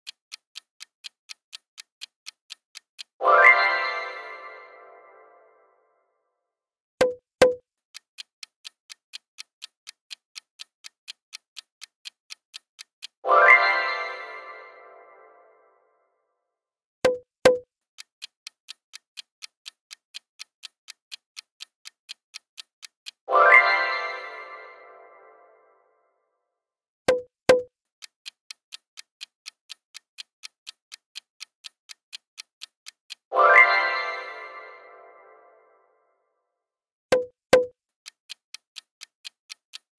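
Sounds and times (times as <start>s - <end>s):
clock ticking: 0.0s - 5.2s, 7.0s - 15.3s, 17.0s - 25.7s, 27.1s - 35.8s, 37.1s - 39.9s.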